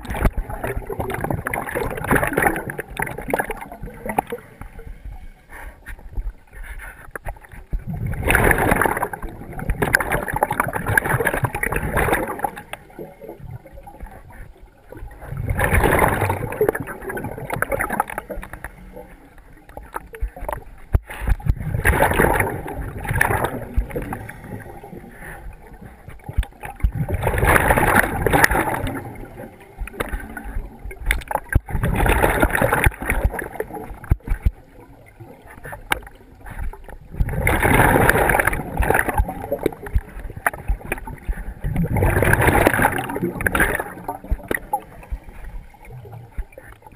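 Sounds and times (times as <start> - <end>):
diver exhaling bubbles underwater: 0.0 - 5.0, 7.7 - 18.9, 20.1 - 46.9.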